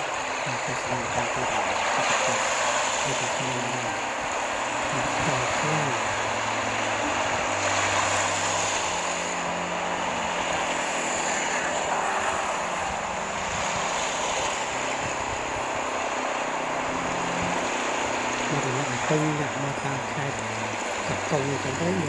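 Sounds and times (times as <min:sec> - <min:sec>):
rushing wind or water: 0:00.0 - 0:22.0.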